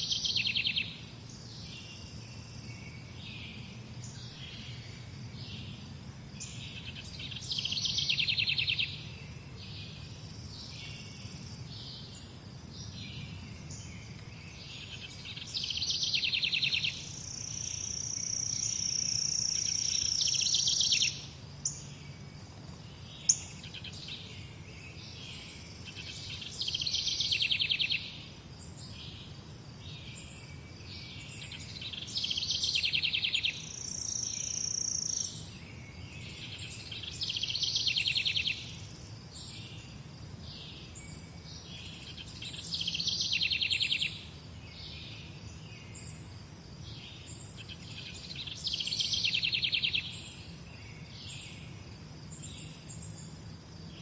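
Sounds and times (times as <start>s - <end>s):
quieter bird calls: 0.0s - 46.3s, 46.9s - 54.0s
faint low background hum: 0.0s - 54.0s.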